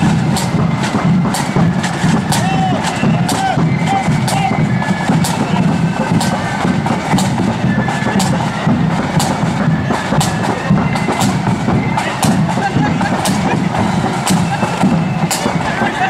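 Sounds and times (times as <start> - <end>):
bass drum beat: 0.0 - 16.0
side drums rattling: 0.0 - 16.0.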